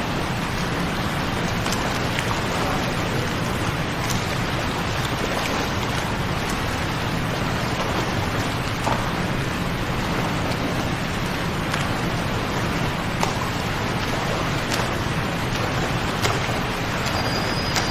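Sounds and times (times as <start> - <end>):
waterfall rushing: 0.0 - 17.9
faint water splashing ticks: 1.3 - 17.9.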